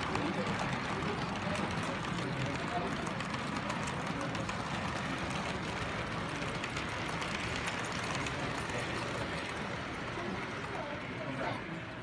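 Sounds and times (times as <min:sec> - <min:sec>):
wheels ticking over rails: 0:00.0 - 0:11.4
model train rolling on track: 0:00.0 - 0:12.0
murmur of busy room: 0:00.0 - 0:12.0.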